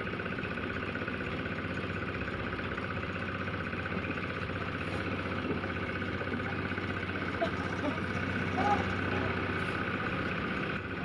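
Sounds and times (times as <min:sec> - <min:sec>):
cement mixer engine running: 0:00.0 - 0:11.0.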